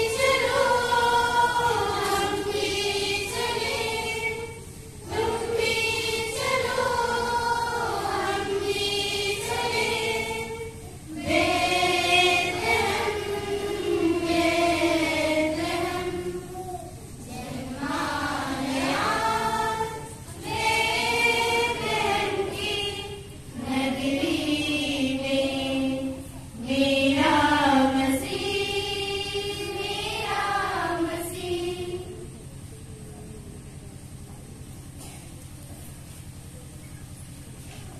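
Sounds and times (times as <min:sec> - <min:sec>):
choir singing: 0:00.0 - 0:32.3.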